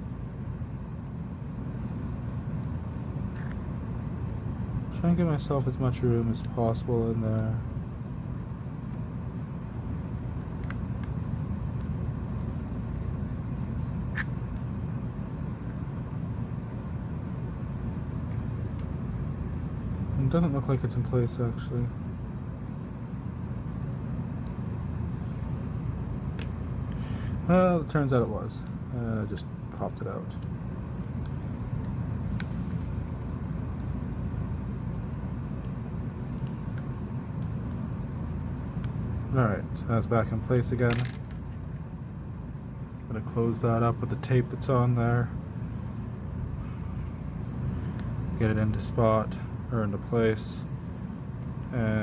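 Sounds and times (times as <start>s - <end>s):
low background rumble: 0.0s - 52.0s.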